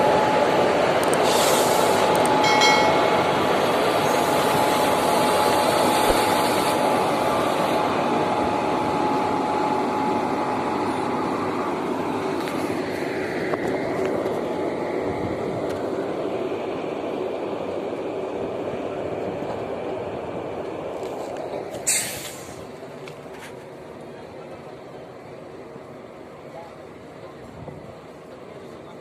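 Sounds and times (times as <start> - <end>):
locomotive whine: 0.0 - 29.0
train wheels rumbling: 0.0 - 29.0.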